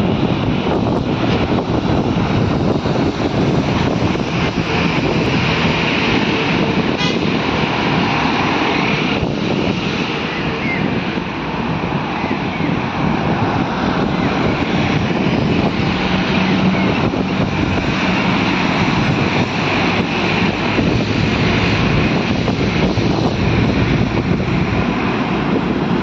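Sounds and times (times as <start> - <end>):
highway traffic rumble: 0.0 - 26.0
wind buffeting microphone: 0.0 - 26.0.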